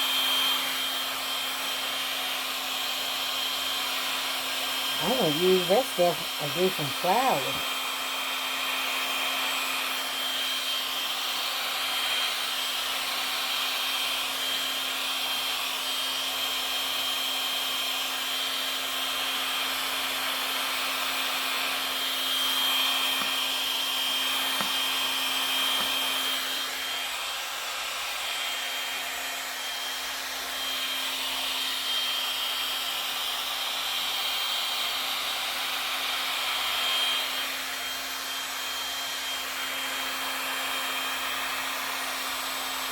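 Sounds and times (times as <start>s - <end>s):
hot-air blower humming: 0.0s - 42.9s.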